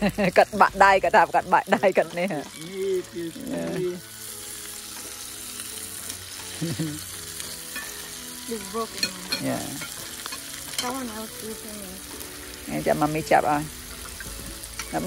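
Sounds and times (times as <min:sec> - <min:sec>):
food sizzling on a grill pan: 0:00.0 - 0:15.0.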